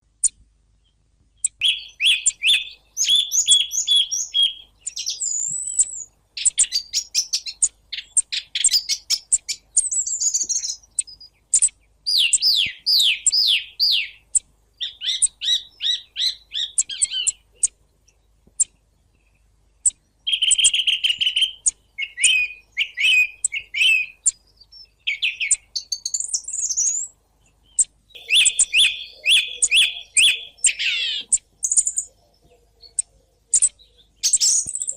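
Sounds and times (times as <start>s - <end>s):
song thrush singing: 0.2s - 34.9s.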